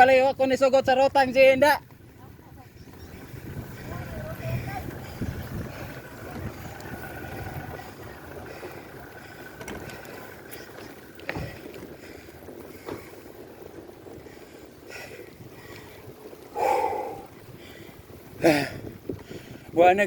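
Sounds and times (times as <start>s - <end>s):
bicycle tyre and road noise: 0.0s - 20.0s
wind rushing over microphone: 0.0s - 20.0s.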